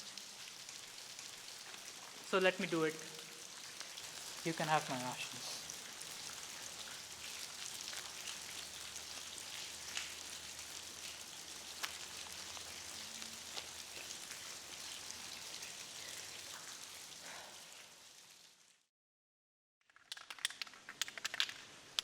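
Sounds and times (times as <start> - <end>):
steady rain falling: 0.0 - 18.8, 20.1 - 22.0.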